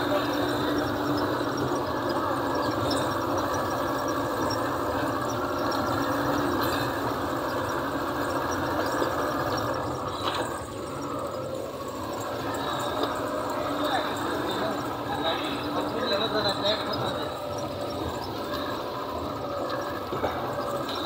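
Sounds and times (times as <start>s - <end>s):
vehicle engine driving on rough track: 0.0s - 21.0s.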